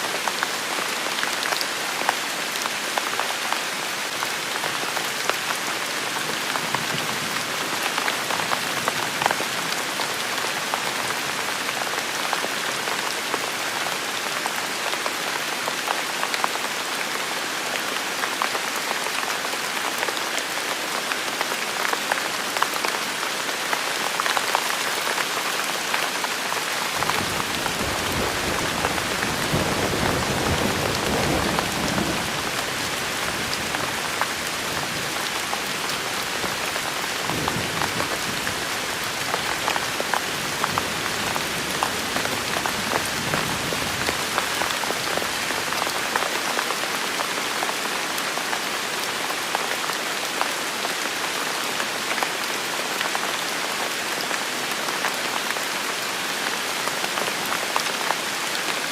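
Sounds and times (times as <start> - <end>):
rain on hard surfaces: 0.0 - 58.9.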